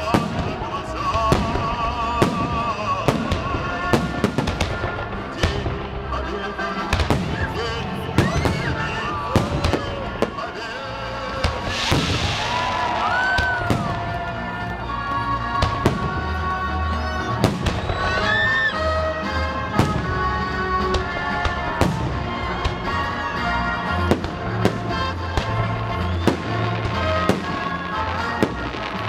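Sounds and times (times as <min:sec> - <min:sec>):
fireworks bangs: 0:00.0 - 0:29.0
music playing: 0:00.0 - 0:29.0.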